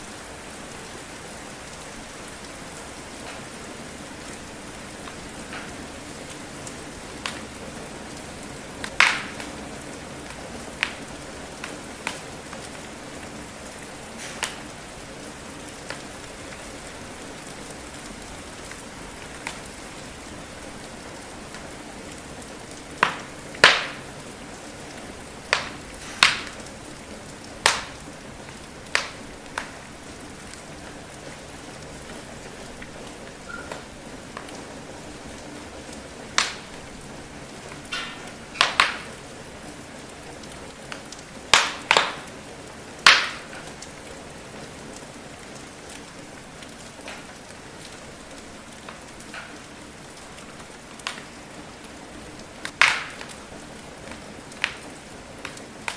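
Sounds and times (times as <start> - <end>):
rain pattering: 0.0 - 55.9
wood fire crackling and popping: 0.1 - 55.9.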